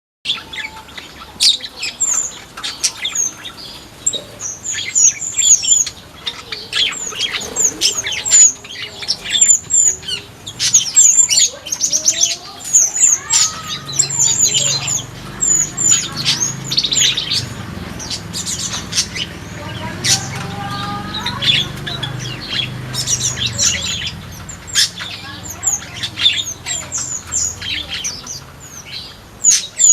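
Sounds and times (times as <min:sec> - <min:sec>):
birds chirping and twittering: 0:00.2 - 0:29.9.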